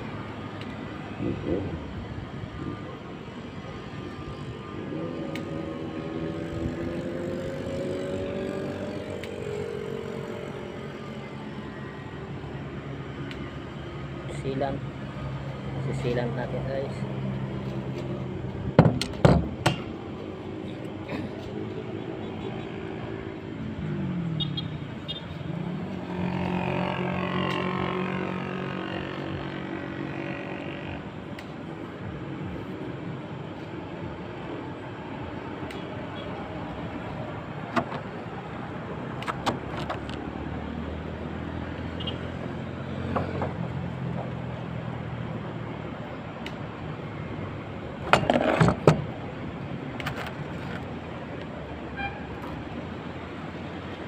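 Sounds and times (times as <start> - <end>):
passing vehicle engine: 3.9 - 18.8, 20.1 - 51.8.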